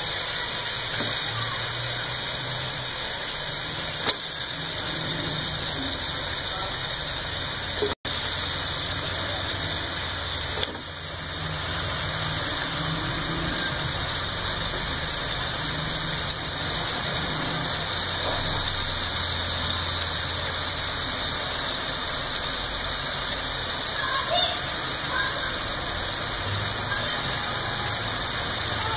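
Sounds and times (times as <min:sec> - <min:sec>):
meat sizzling in hot oil: 0:00.0 - 0:28.9.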